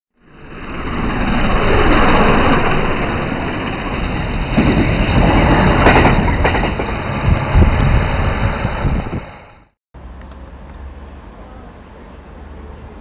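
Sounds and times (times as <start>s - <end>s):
train passing close by: 0.3s - 13.0s.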